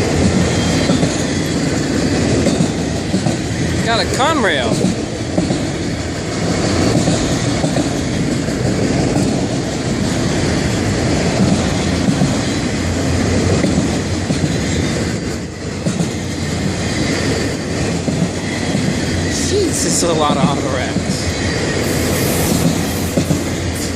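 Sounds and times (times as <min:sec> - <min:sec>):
freight train wheels on rails: 0:00.0 - 0:23.9.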